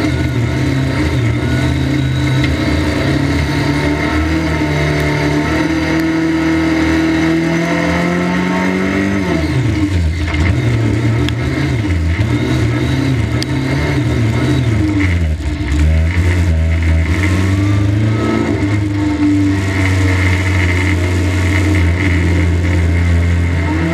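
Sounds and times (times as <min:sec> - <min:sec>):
racing car engine at high revs: 0:00.0 - 0:23.9.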